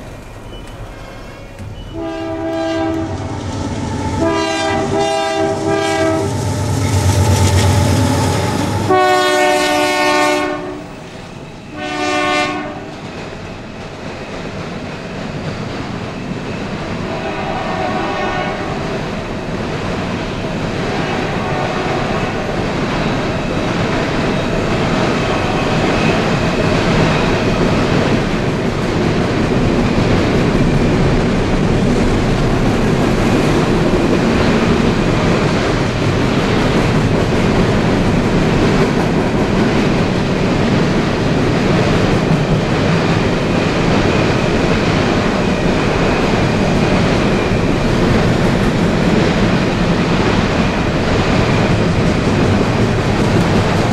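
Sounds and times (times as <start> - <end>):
freight train rolling past: 0.0 - 53.9
wheels clacking on rail: 0.0 - 53.9.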